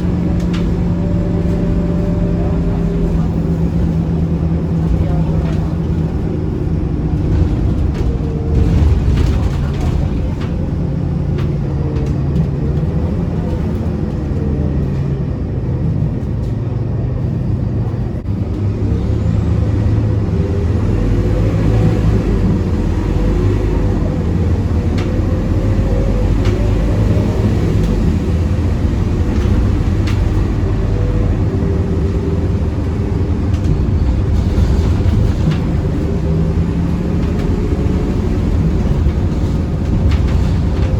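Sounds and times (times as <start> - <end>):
bus engine low drone: 0.0 - 40.9.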